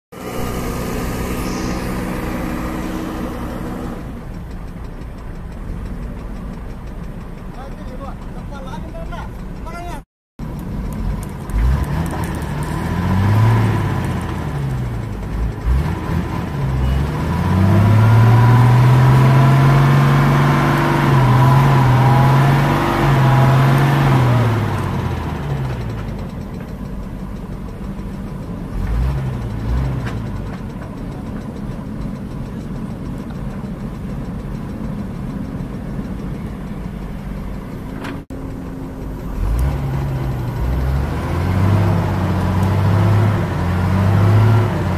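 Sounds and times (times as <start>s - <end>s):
diesel engine revving: 0.1s - 44.9s.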